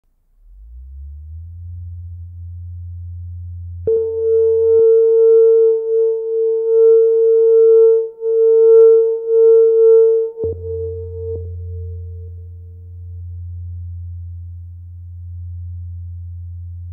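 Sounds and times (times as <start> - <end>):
low electronic hum: 0.0 - 16.9
steady mid-pitched electronic tone: 0.4 - 16.6.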